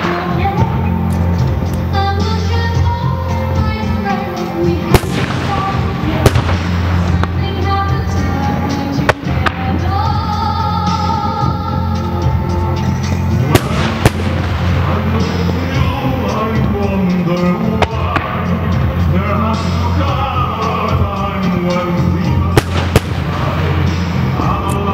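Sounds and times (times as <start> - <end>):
music: 0.0 - 24.9
fireworks bursting with bangs: 3.6 - 11.5, 12.2 - 24.9.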